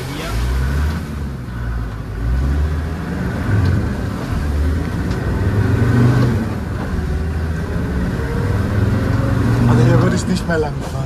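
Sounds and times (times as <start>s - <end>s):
car engine running off-road: 0.0s - 11.0s.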